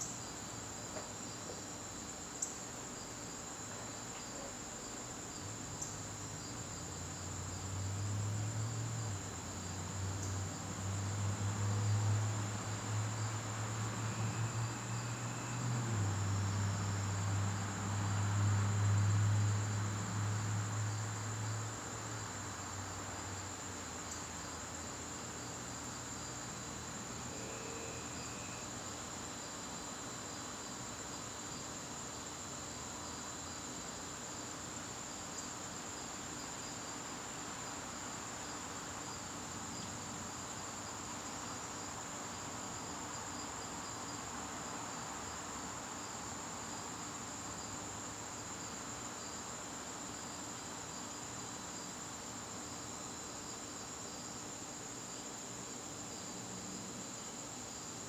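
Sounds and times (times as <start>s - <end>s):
cricket chirps: 0.0s - 58.0s
crickets trilling: 0.0s - 58.0s.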